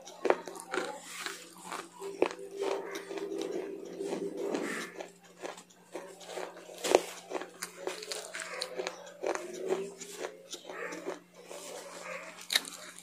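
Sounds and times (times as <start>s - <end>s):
chewing crisp leafy greens: 0.0s - 13.0s.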